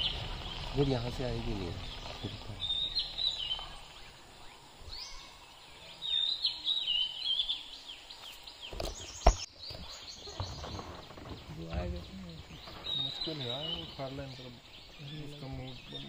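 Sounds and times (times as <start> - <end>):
wild birds chirping: 0.0 - 16.0.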